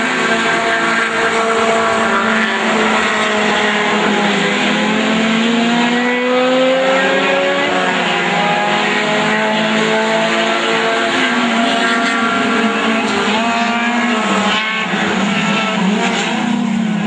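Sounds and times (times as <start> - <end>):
car accelerating: 0.0 - 17.0
race car engines: 0.0 - 17.0.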